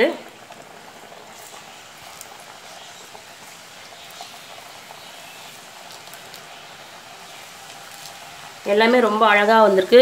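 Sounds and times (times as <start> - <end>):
hot oil bubbling and crackling: 0.0 - 10.0.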